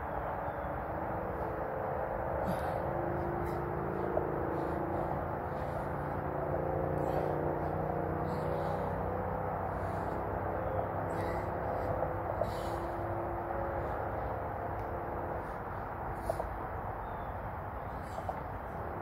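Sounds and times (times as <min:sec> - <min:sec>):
faint drifting hum tones: 0:00.0 - 0:19.0
low background rumble: 0:00.0 - 0:19.0.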